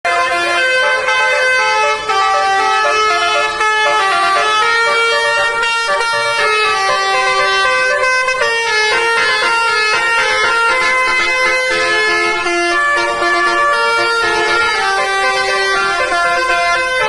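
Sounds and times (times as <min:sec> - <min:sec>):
bus horn playing a tune: 0:00.1 - 0:17.0.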